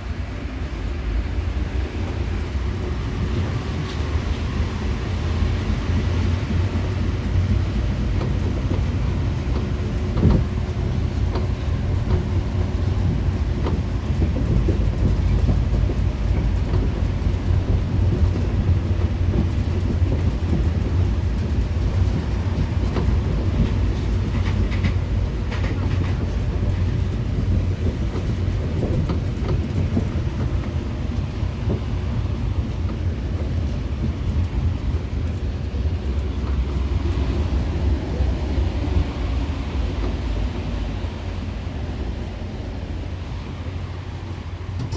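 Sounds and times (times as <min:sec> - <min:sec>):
train running rumble: 0:00.0 - 0:44.9.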